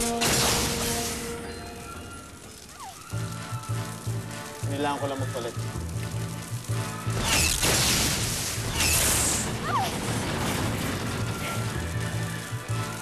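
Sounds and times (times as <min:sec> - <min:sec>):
dramatic background music: 0:00.0 - 0:13.0.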